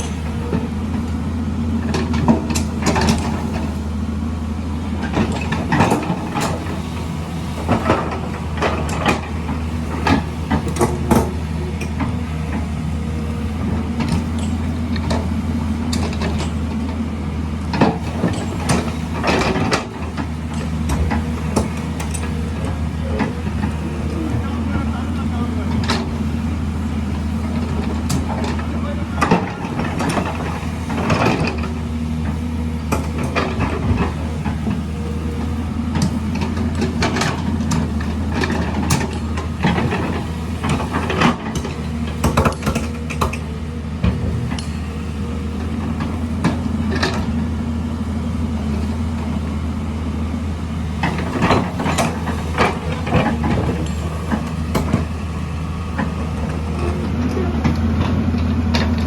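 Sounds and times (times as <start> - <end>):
construction machine engine humming: 0.0 - 59.0.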